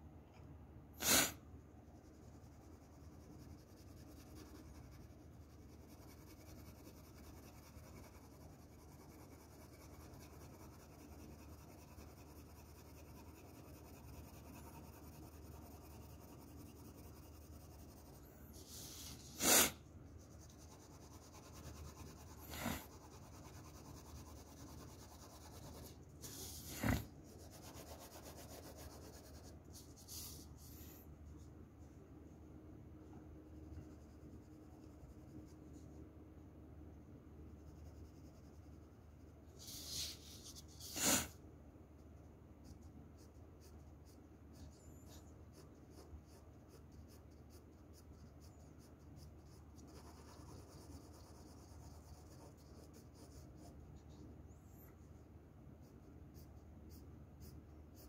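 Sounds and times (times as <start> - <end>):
pencil scratching on paper: 1.0 - 31.4, 33.5 - 36.0, 37.5 - 41.4, 42.0 - 54.3, 55.7 - 58.0.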